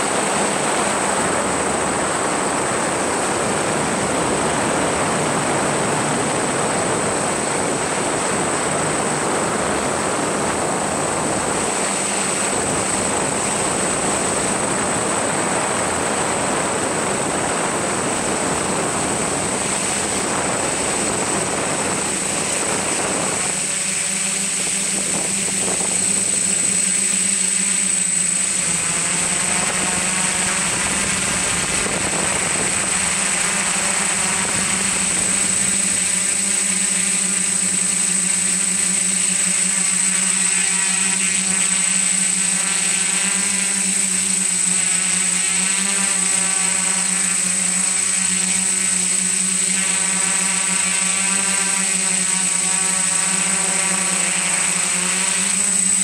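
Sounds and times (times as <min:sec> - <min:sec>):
drone motors whirring: 0:00.0 - 0:56.0.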